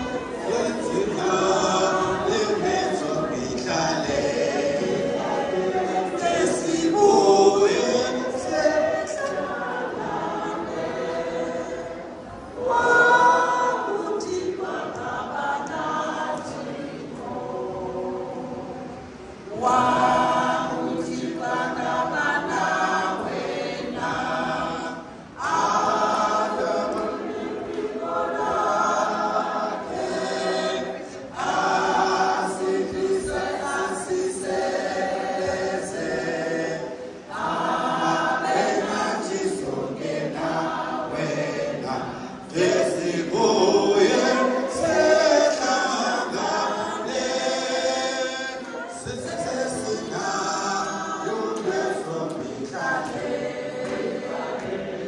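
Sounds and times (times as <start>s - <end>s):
women singing a hymn: 0.0s - 55.0s.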